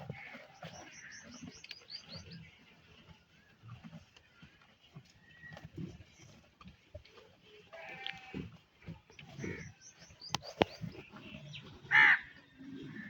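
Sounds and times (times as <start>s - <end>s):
farmyard animal and bird calls: 0.0s - 13.0s.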